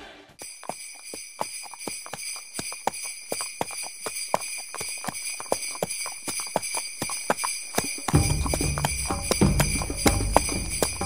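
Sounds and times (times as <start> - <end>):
sleigh bells jingling: 0.4 - 11.0.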